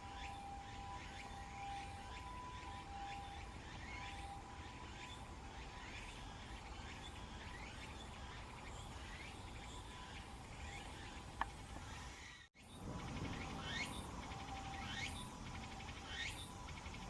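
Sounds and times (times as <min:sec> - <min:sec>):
insect-like chirping: 0:00.0 - 0:17.0.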